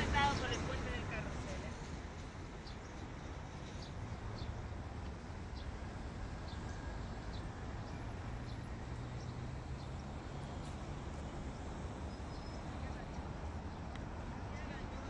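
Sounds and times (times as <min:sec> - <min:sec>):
low city rumble: 0:00.0 - 0:15.0
small birds chirping: 0:02.5 - 0:15.0.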